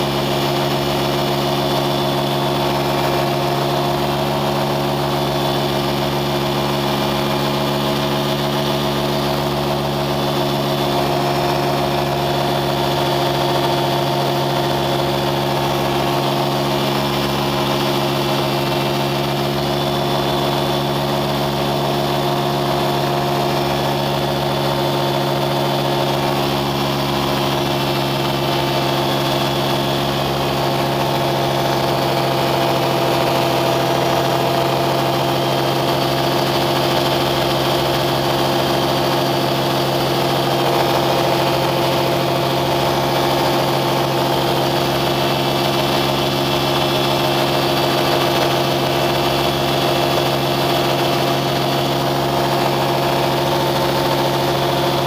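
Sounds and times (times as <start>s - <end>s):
engine droning steadily: 0.0s - 55.0s.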